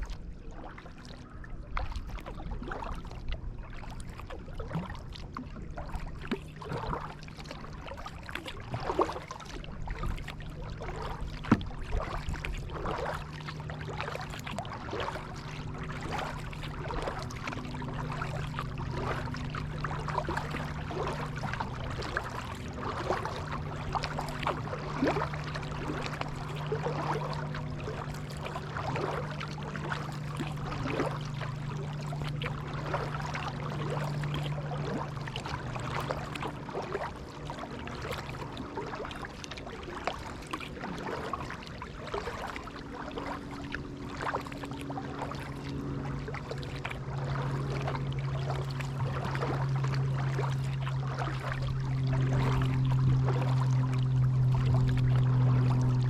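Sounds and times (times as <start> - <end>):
paddle splashing water: 0.0 - 56.0
steady low hum: 0.0 - 56.0.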